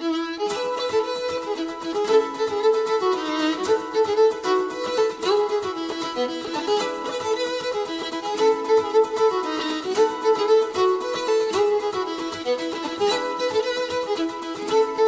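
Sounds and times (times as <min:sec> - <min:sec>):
fiddle playing quick tune: 0:00.0 - 0:15.0
instrumental accompaniment: 0:00.0 - 0:15.0.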